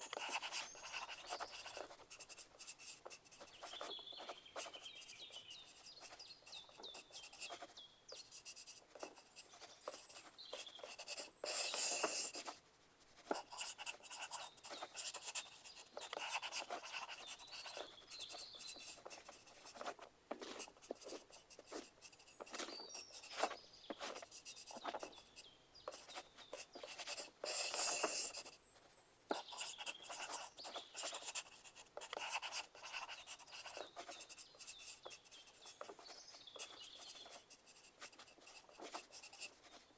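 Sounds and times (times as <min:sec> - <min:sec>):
pencil scratching on paper: 0:00.0 - 0:28.6, 0:29.3 - 0:39.9.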